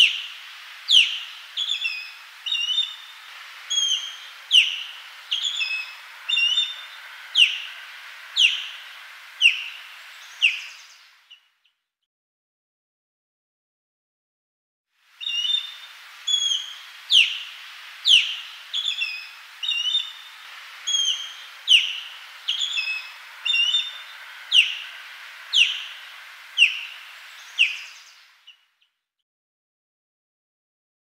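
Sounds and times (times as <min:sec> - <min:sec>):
osprey whistled calls: 0:00.0 - 0:11.5, 0:15.2 - 0:28.7
steady background hiss: 0:00.0 - 0:11.6, 0:15.0 - 0:28.8.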